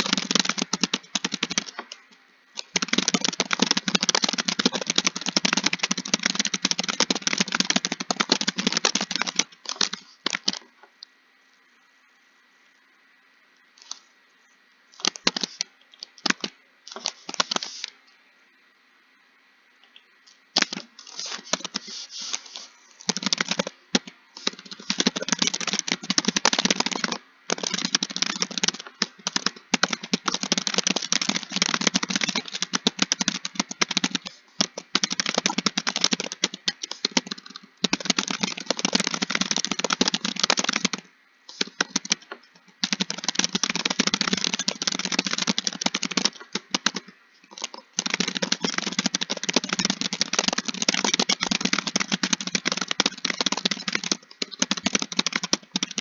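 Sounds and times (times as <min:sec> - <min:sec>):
fast typing on keyboard: 0:00.0 - 0:02.0, 0:02.6 - 0:10.6, 0:15.0 - 0:17.9, 0:20.6 - 0:56.0.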